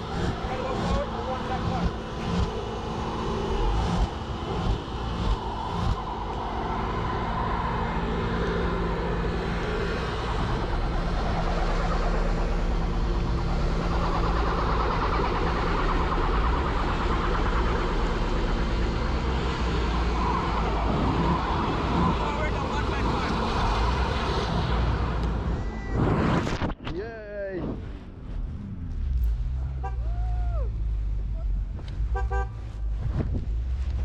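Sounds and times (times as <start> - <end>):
car engine under throttle: 0.0 - 26.8, 27.6 - 34.0.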